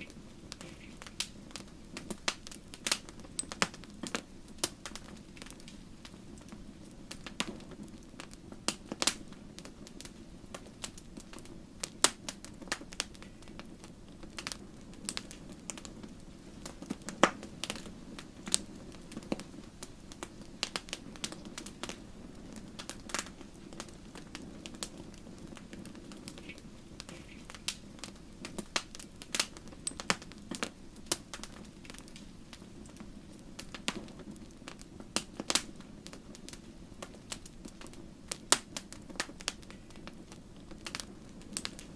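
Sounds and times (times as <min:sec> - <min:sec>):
low rush of flames: 0:00.0 - 0:41.9
wood fire crackling and popping: 0:00.0 - 0:41.9.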